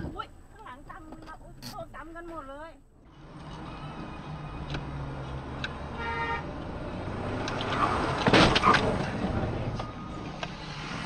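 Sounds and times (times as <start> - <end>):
car road noise inside cabin: 0.0 - 11.0.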